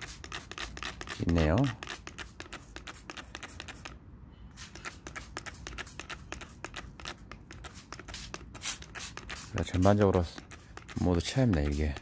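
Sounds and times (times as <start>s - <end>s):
spray bottle spray bursts: 0.0s - 3.9s, 4.5s - 12.0s.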